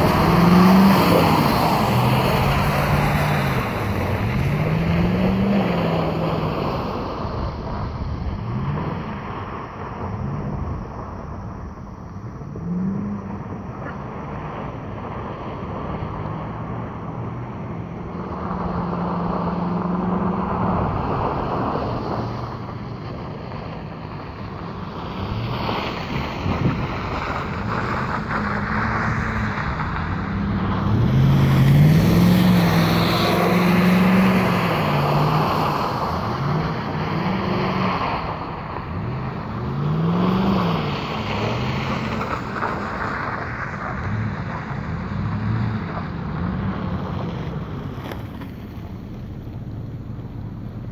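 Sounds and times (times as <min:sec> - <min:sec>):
engine revving: 0:00.0 - 0:23.6, 0:24.8 - 0:50.9.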